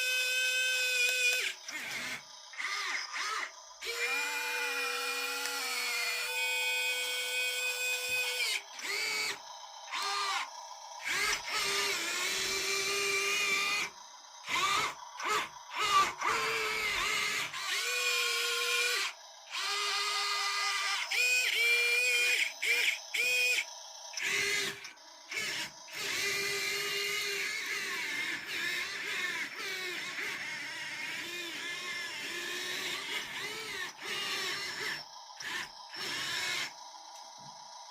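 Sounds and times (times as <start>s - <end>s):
small electric motors whining: 0.0s - 37.9s.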